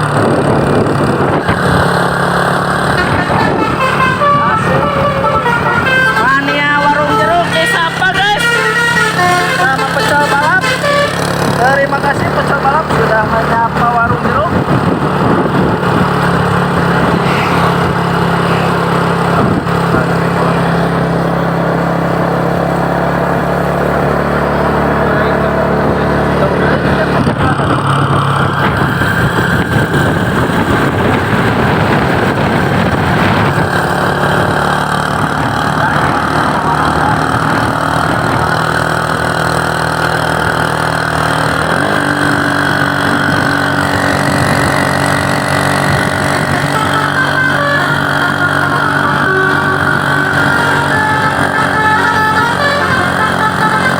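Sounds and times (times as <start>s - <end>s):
vehicle engines and traffic: 0.0s - 53.9s.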